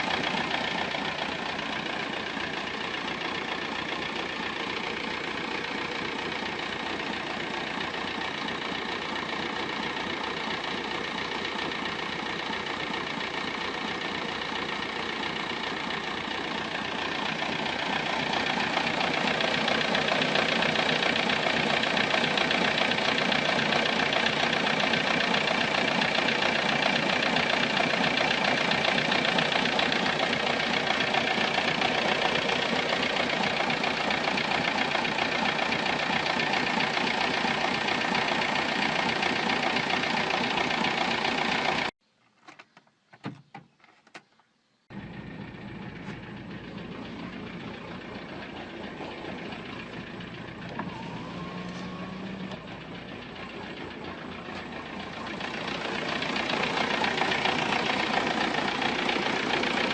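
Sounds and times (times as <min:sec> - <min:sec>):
car engine running: 0:00.0 - 0:41.9, 0:44.9 - 0:59.9.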